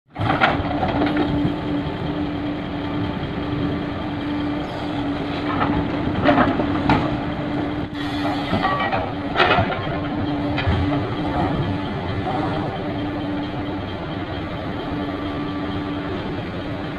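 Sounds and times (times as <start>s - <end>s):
diesel truck engine droning: 0.1s - 16.9s.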